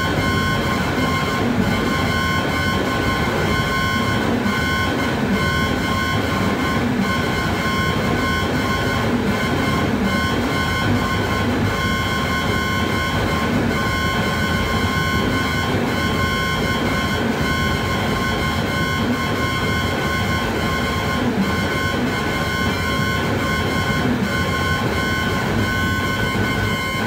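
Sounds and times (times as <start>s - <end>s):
synthesiser noise drone: 0.0s - 27.0s.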